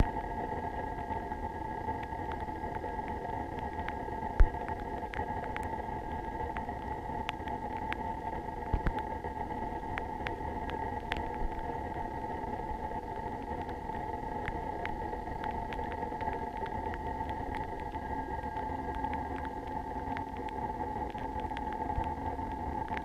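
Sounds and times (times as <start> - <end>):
high-pitched whine: 0.0 - 23.0
raindrops ticking: 0.0 - 23.0.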